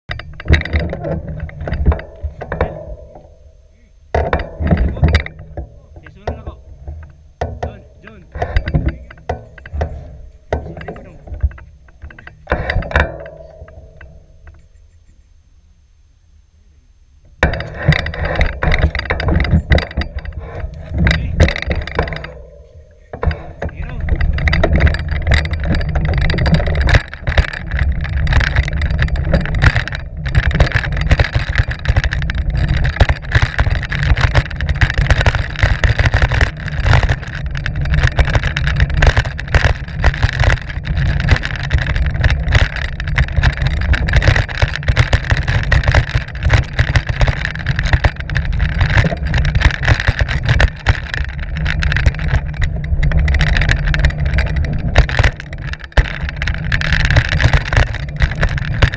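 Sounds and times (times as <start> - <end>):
bike rattling and knocking: 0.0 - 15.0, 17.3 - 58.9
wind and ground rumble: 0.0 - 58.9.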